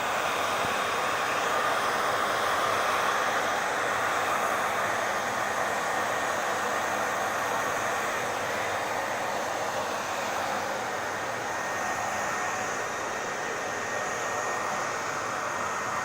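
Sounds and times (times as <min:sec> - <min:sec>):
faint motor whine: 0:00.0 - 0:16.0
hair dryer blowing air: 0:00.0 - 0:16.0.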